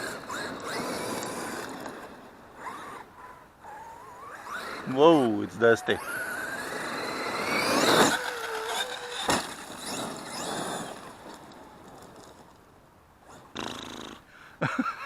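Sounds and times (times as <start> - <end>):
electric motor whining: 0.0 - 12.4.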